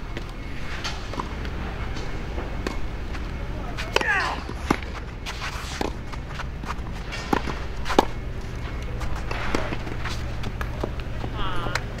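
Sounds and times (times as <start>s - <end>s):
rackets striking tennis ball: 0.1s - 12.0s
shoes moving on court: 0.1s - 12.0s
tennis ball bouncing: 0.1s - 12.0s.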